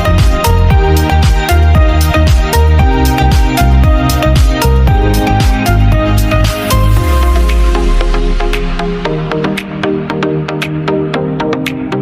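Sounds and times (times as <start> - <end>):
electronic music: 0.0 - 12.0
ticking beat: 0.0 - 12.0.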